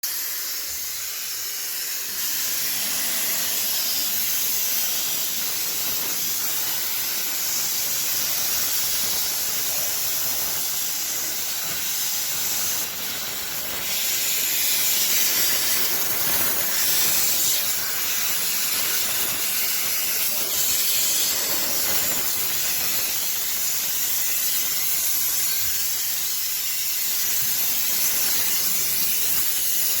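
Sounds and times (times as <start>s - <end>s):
high steam hiss: 0.0s - 30.0s.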